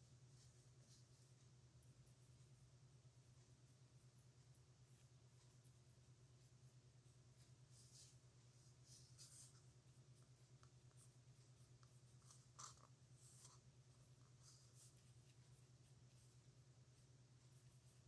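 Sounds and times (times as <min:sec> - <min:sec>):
steady low hum: 0:00.0 - 0:18.0
pen nib scratching on paper: 0:00.3 - 0:18.0.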